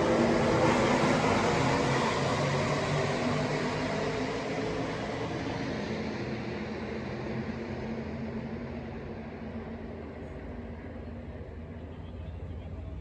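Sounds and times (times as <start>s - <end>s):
race truck engines at speed: 0.0s - 13.0s.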